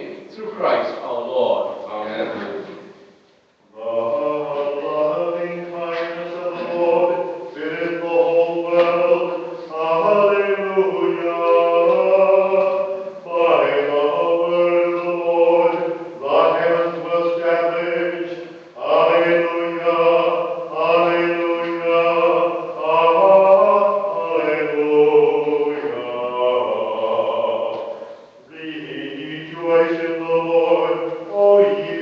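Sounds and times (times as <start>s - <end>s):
chant-like liturgical singing: 3.7s - 32.0s.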